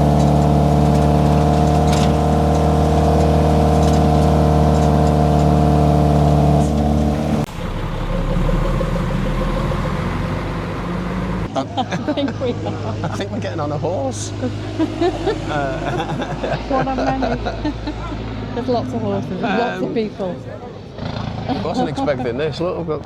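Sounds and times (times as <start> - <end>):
truck engine running hard: 0.0 - 23.0
low rumble: 0.8 - 19.4.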